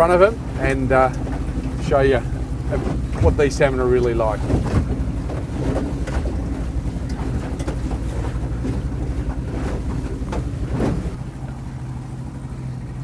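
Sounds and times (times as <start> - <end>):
motorboat engine running: 0.0 - 13.0
water splashing: 0.0 - 13.0
wind buffeting microphone: 0.0 - 13.0.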